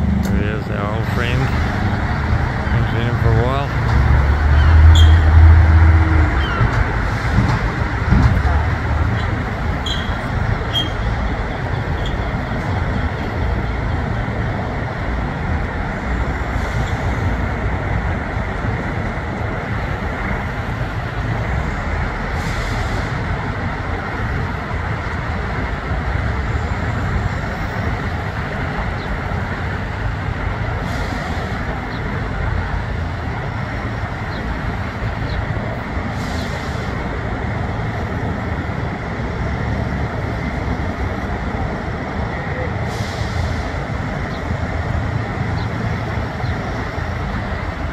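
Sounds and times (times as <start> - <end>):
truck engines and traffic rumble: 0.0 - 47.9.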